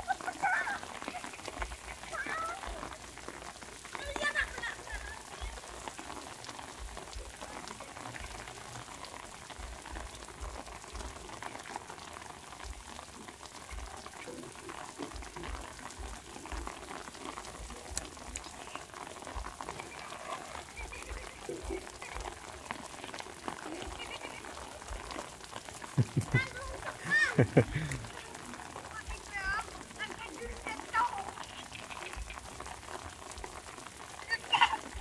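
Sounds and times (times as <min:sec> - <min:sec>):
light rain pattering: 0:00.0 - 0:35.0.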